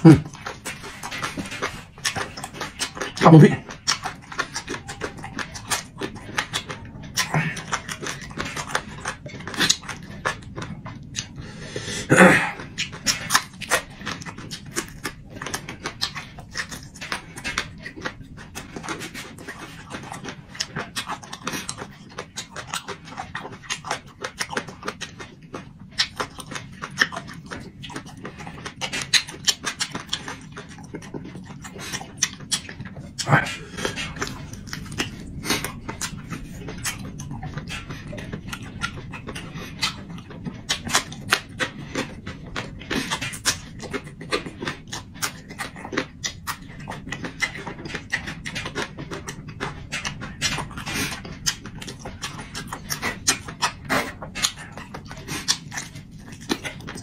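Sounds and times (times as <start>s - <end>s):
wet chewing and lip smacks: 0.0s - 57.0s.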